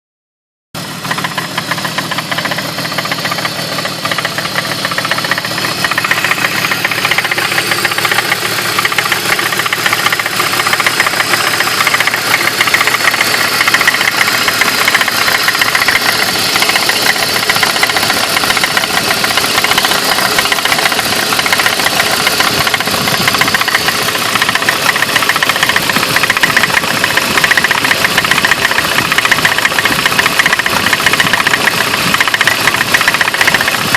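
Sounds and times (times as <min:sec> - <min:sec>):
car engine idling roughly: 0:00.8 - 0:33.9
rapid engine knocking: 0:00.8 - 0:33.9.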